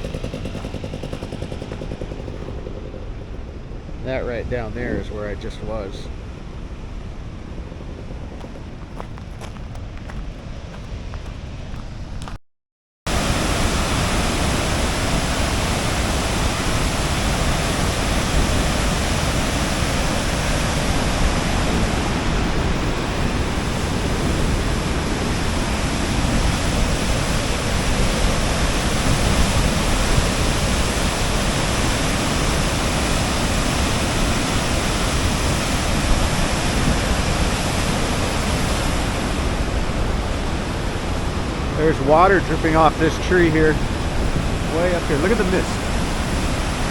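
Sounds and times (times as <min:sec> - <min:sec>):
waterfall roaring: 0:00.0 - 0:06.5, 0:07.4 - 0:11.8, 0:13.1 - 0:46.9.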